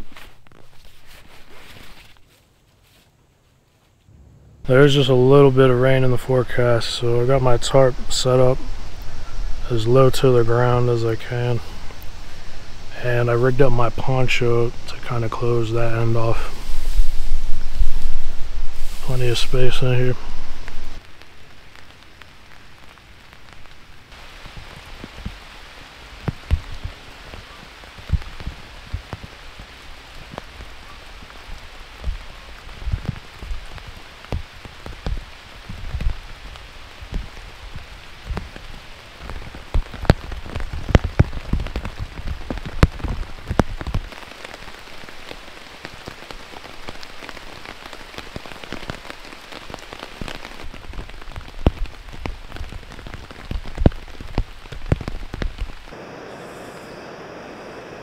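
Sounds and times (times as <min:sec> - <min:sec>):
rain hissing on a tarp: 0:00.0 - 0:02.3, 0:04.7 - 0:58.0.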